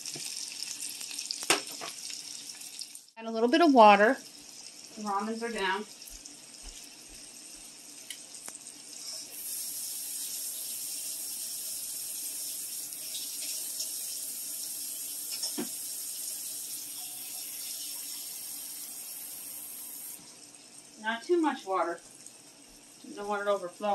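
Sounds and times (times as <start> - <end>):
kitchen tap running: 0.0 - 23.9.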